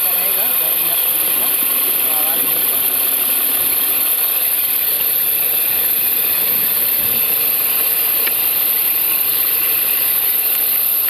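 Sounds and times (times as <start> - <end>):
car engine idling: 0.0 - 11.0
chattering belt drive noise: 0.0 - 11.0
hiss: 0.0 - 11.0.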